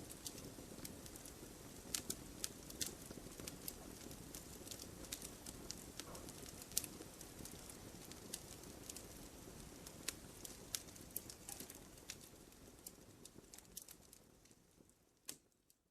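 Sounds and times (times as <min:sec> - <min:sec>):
wood fire crackling and popping: 0:00.0 - 0:15.9.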